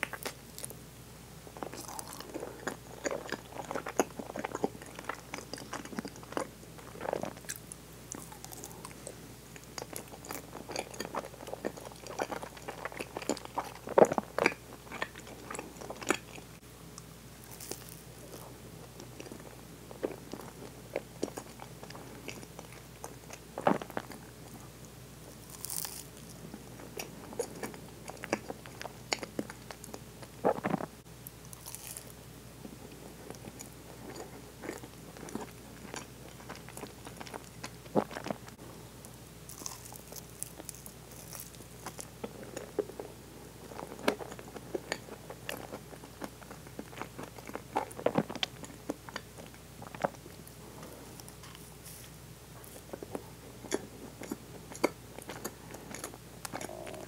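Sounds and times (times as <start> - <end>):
mouth chewing soft sweet: 0.0 - 0.8, 1.5 - 57.0.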